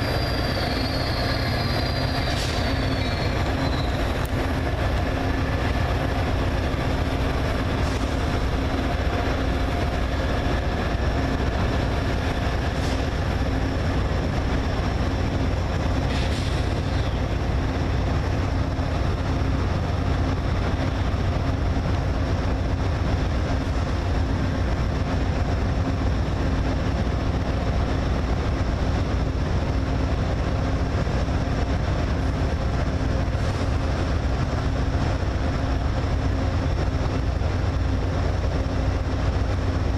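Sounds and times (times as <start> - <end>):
idling train engine rumble: 0.0 - 39.9.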